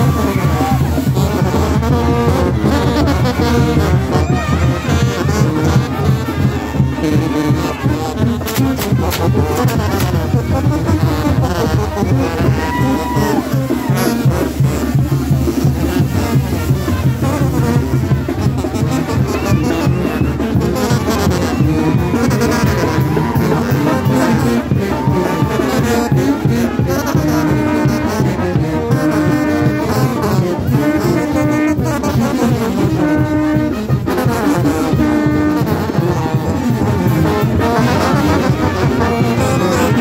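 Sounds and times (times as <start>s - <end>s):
bass drum beat: 0.0s - 40.0s
brass band playing: 0.0s - 40.0s.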